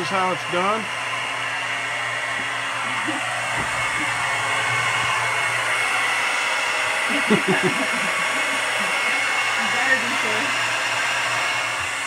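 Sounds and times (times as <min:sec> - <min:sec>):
hair dryer whining: 0:00.0 - 0:12.0.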